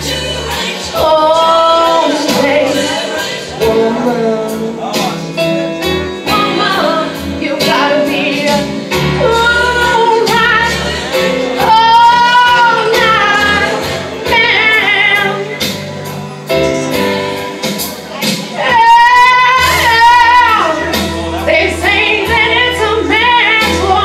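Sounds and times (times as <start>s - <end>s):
karaoke backing track: 0.0s - 24.0s.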